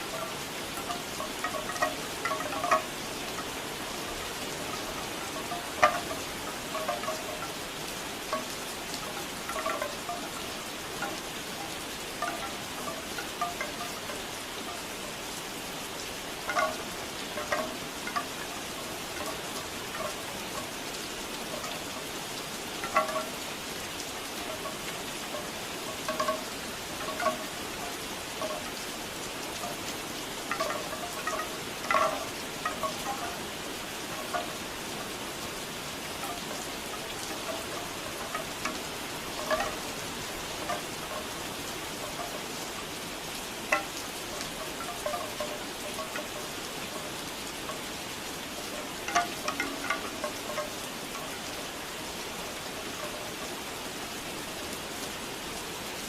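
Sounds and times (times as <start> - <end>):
bamboo wind chimes clacking: 0.0 - 56.0
steady rain: 0.0 - 56.0.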